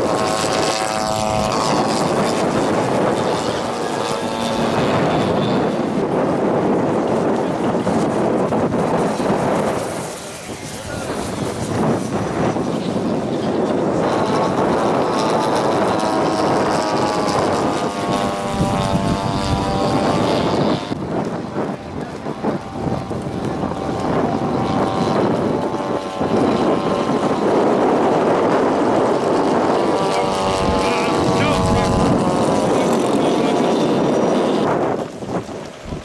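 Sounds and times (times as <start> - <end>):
model plane propeller engines: 0.0 - 36.0.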